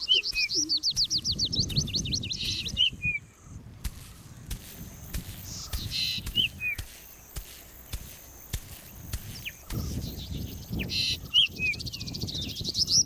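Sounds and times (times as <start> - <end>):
wild birds chirping: 0.0 - 13.0.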